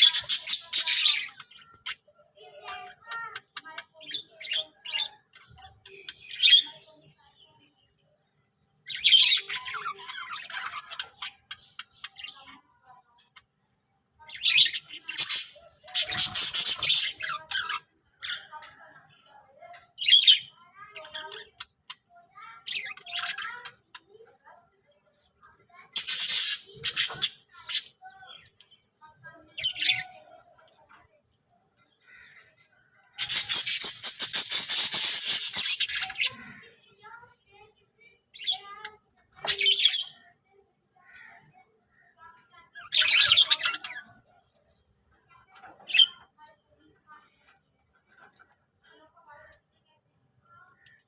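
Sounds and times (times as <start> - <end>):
budgerigars chirping and chattering: 0.0 - 8.0, 8.8 - 13.5, 14.2 - 31.1, 31.7 - 40.4, 41.0 - 46.5.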